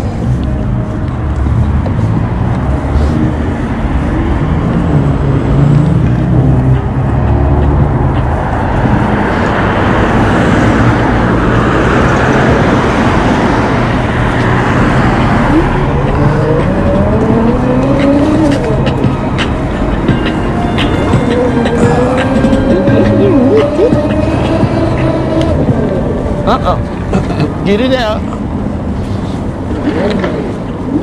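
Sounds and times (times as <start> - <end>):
street traffic: 0.0 - 31.0
vehicle speeding up: 0.0 - 31.0
wind and road noise: 0.0 - 31.0.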